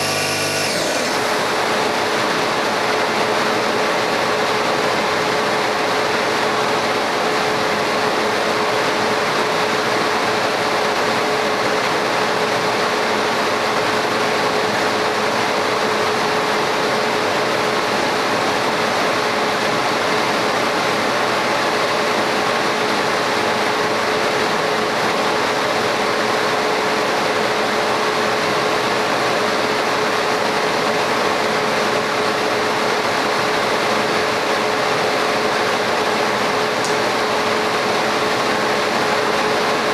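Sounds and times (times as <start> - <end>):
laser cutting machine running: 0.0 - 39.9.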